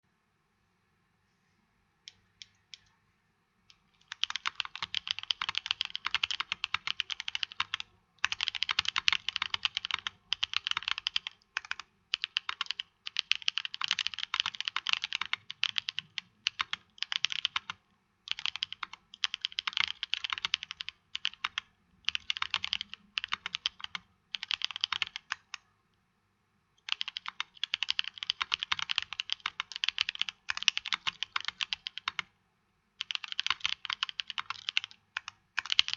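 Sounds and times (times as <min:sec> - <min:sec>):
mechanical keyboard typing: 0:03.9 - 0:25.6, 0:26.8 - 0:32.3, 0:33.0 - 0:35.9.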